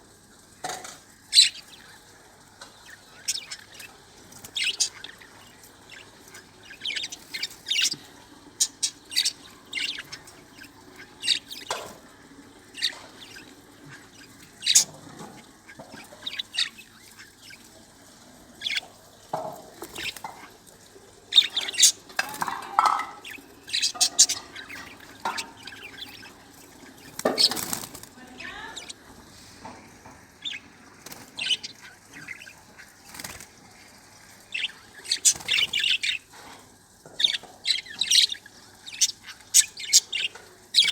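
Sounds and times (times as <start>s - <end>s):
budgerigars chirping: 1.3s - 2.0s, 2.6s - 12.0s, 12.6s - 17.8s, 18.5s - 20.6s, 21.3s - 29.1s, 30.4s - 33.5s, 34.4s - 36.3s, 37.1s - 40.9s.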